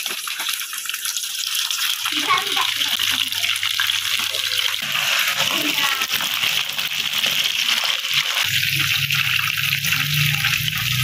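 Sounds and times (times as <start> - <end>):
hot oil sizzling with crackles: 0.0 - 11.0.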